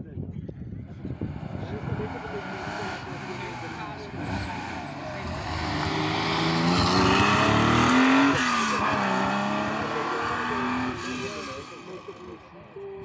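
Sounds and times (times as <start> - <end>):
rally car engine accelerating: 0.8 - 12.4.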